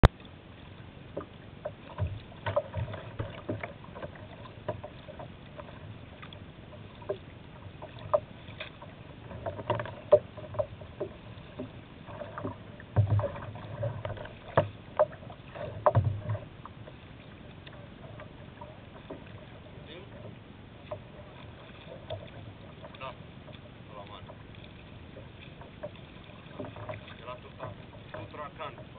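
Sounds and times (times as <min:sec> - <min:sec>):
steady water wash: 0:00.0 - 0:28.9
water slapping against kayak hull: 0:00.0 - 0:28.9
water splashing: 0:00.0 - 0:28.9.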